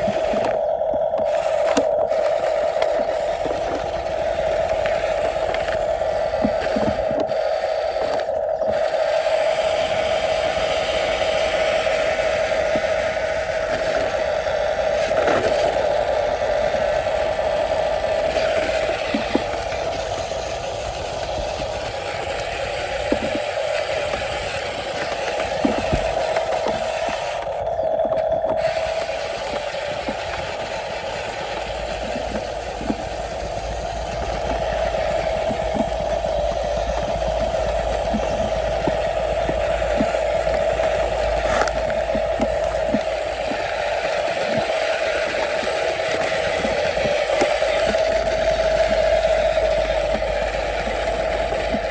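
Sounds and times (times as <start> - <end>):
low hum: 0.0 - 51.9
toy truck motor whining: 0.0 - 51.9.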